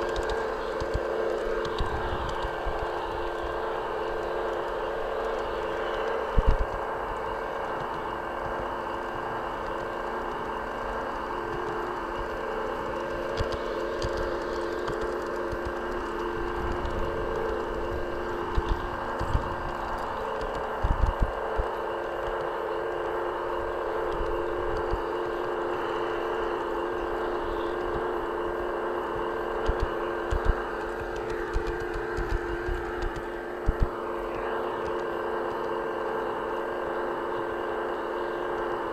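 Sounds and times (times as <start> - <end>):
model train whirring on track: 0.0 - 38.9.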